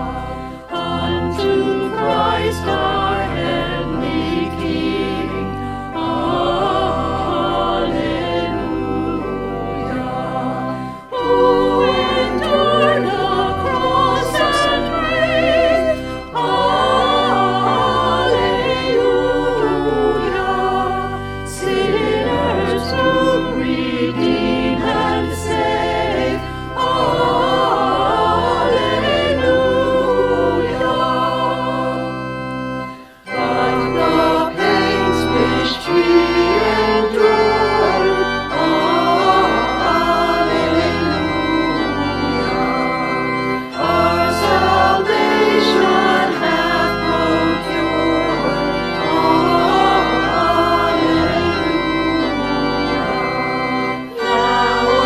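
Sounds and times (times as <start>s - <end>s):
church organ music: 0.0s - 55.0s
voices singing: 0.0s - 55.0s.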